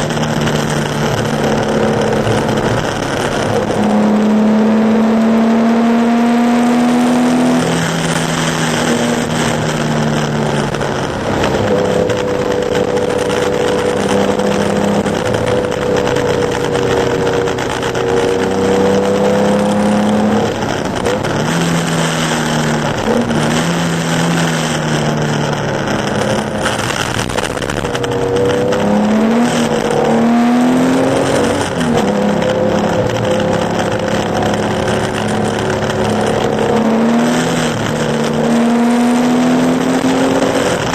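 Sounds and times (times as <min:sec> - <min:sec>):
racing car engine: 0:00.0 - 0:40.9
water spray and tyre noise: 0:06.6 - 0:40.9.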